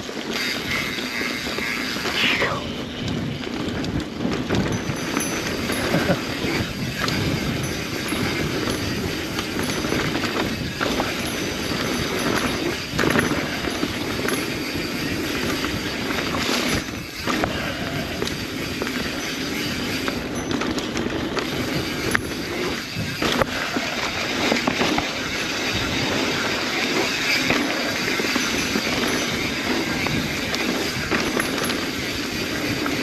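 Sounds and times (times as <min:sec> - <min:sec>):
bike rattling over rocks: 0:00.0 - 0:02.2, 0:02.9 - 0:33.0.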